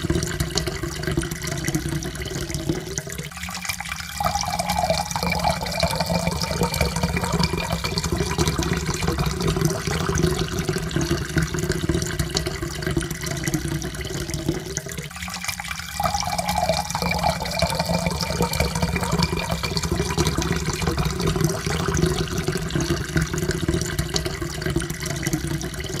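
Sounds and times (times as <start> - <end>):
water pouring into a cup: 0.0 - 26.0.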